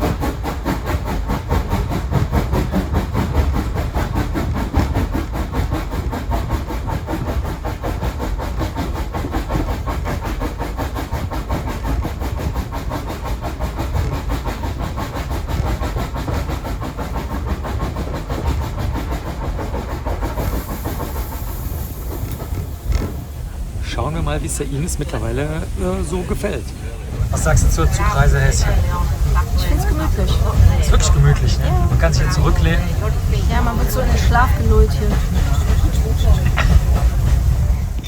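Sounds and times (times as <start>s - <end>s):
high steam hiss: 0.0s - 38.0s
train rumble with rail clatter: 0.0s - 38.0s.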